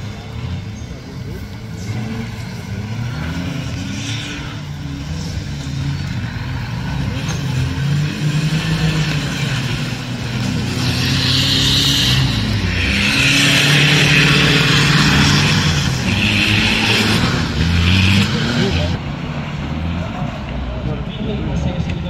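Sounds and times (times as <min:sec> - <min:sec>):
engines revving under load: 0:00.0 - 0:22.0.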